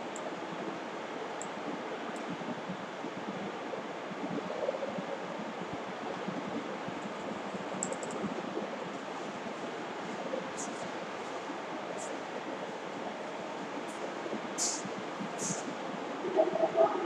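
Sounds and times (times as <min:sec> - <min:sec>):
room noise hiss: 0:00.0 - 0:17.0.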